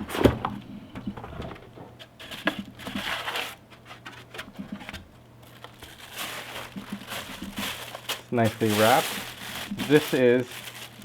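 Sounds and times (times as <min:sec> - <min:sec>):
packing material rustling: 0:01.2 - 0:11.0.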